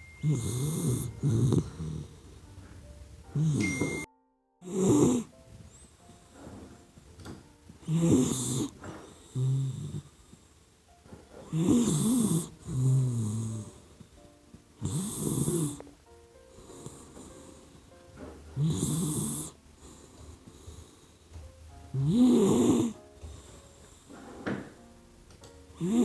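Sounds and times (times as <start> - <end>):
puppy snoring: 0.0 - 24.9, 25.7 - 26.0.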